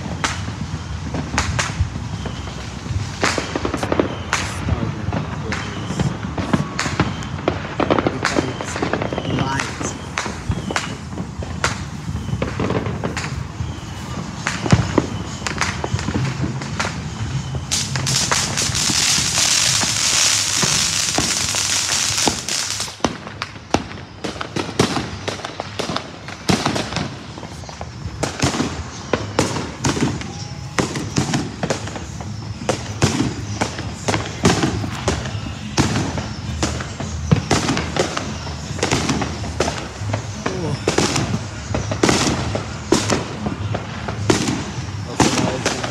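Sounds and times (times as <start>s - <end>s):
dense hissing crackle: 0.0s - 45.9s
fireworks bangs and pops: 0.0s - 45.9s.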